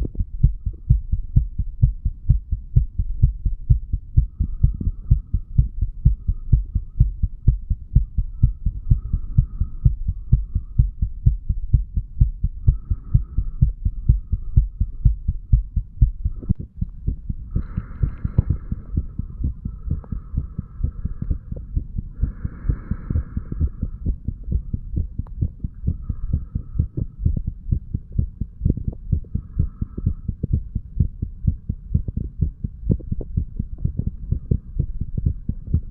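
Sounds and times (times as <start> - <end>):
heartbeat thumps: 0.0 - 35.9.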